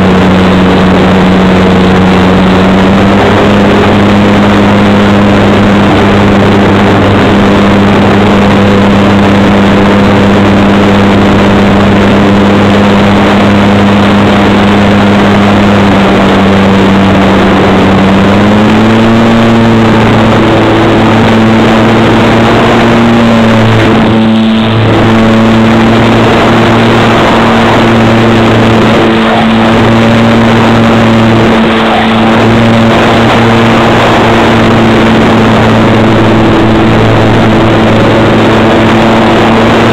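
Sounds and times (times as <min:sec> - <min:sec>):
model plane motor drone: 0:00.0 - 0:39.9
wind rush: 0:00.0 - 0:39.9.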